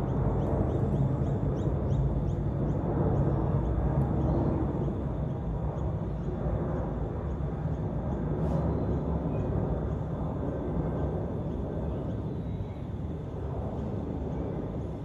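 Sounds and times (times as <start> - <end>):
jet airliner engine rumble: 0.0 - 15.0.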